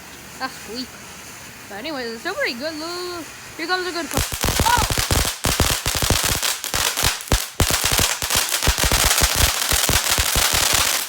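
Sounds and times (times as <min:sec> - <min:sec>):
fireworks bangs and crackles: 0:01.4 - 0:11.0.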